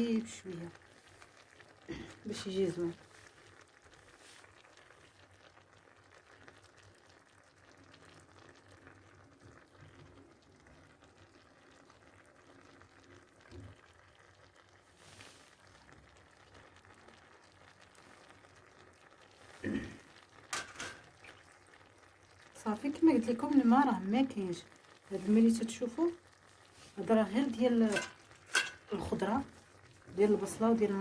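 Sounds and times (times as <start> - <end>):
food sizzling and simmering: 0.0 - 31.0.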